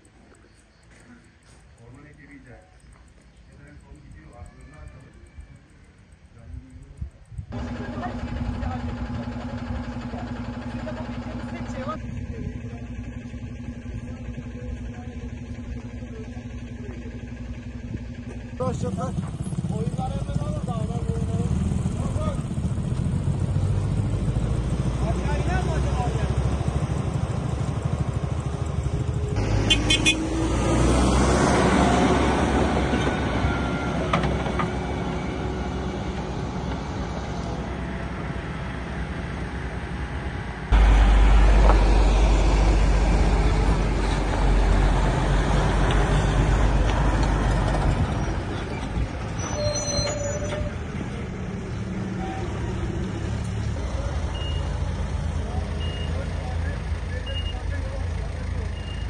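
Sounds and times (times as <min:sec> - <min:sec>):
heavy vehicle engines rumbling: 0:00.0 - 0:59.0.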